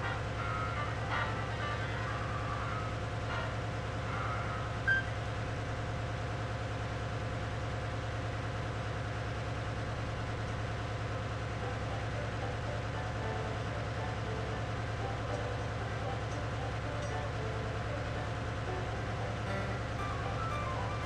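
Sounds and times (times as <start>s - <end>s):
engine room machinery drone: 0.0s - 21.0s.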